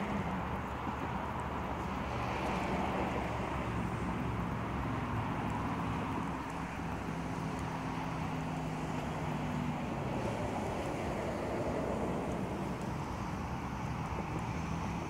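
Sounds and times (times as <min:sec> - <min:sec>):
locomotive engines droning: 0:00.0 - 0:15.0.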